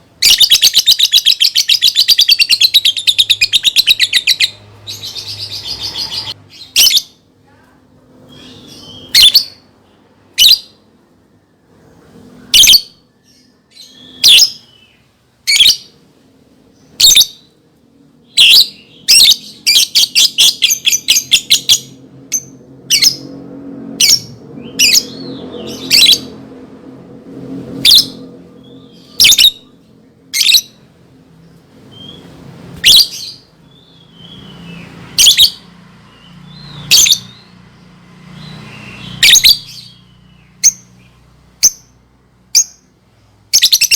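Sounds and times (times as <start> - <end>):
lovebird chirping: 0.1 - 7.2, 8.2 - 10.8, 12.3 - 16.0, 16.8 - 17.6, 18.2 - 23.4, 24.0 - 26.4, 27.7 - 42.9, 43.5 - 43.9.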